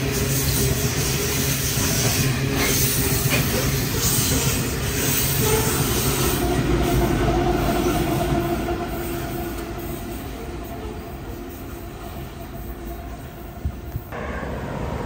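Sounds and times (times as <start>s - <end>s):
train rolling past: 0.0s - 15.0s.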